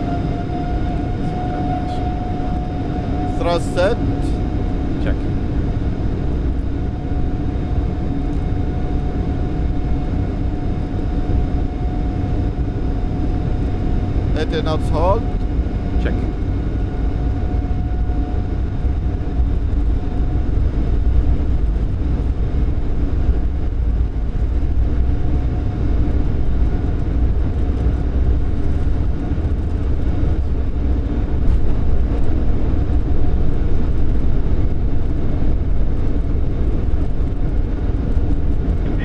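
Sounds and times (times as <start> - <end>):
jet engines rumbling on takeoff: 0.0 - 39.0.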